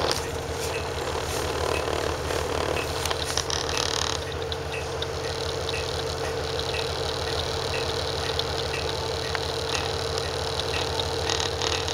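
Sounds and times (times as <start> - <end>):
diesel engine idling: 0.0 - 11.9
faint ticking: 0.0 - 11.9.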